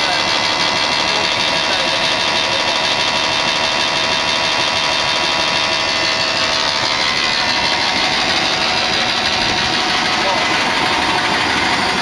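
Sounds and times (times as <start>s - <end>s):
compressor running with whining tones: 0.0s - 12.0s.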